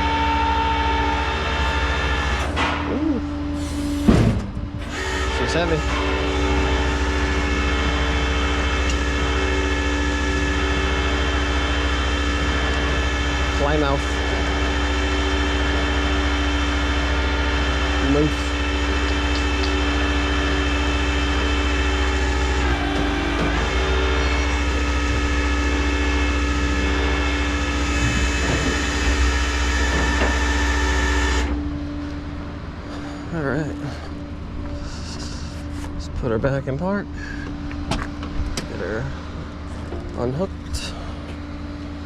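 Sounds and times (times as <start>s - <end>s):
mechanical whine: 0.0s - 42.0s
tow truck engine humming: 0.0s - 42.0s.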